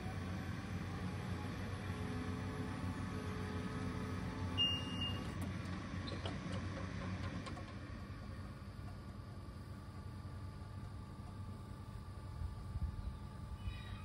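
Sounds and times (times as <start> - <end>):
hydraulic power unit humming: 0.0 - 14.0.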